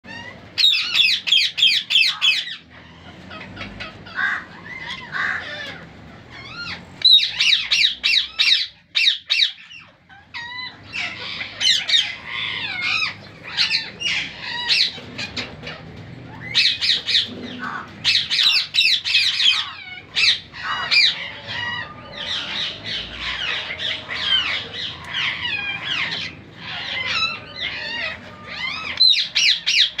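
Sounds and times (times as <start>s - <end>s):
parrots chirping and squawking: 0.0s - 30.0s.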